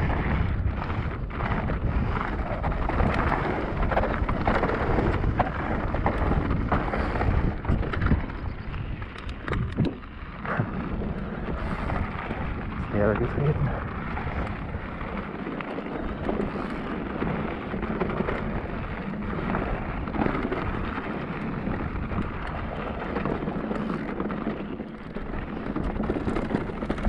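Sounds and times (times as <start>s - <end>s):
bike clattering: 0.0s - 27.0s
bike tyres rumbling: 0.0s - 27.0s
wind rushing over microphone: 0.0s - 27.0s.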